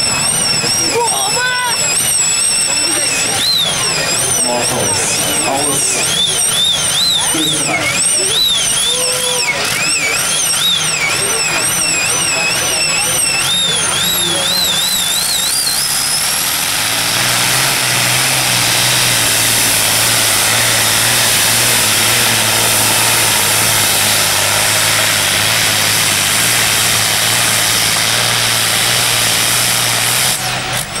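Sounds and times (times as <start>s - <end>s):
tractor engine at full power: 0.0s - 31.0s.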